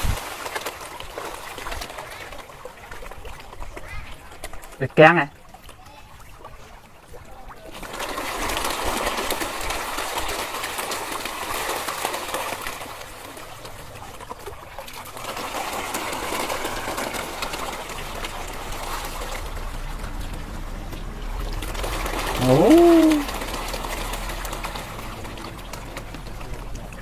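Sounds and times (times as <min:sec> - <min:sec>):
fish splashing at water surface: 0:00.0 - 0:27.0.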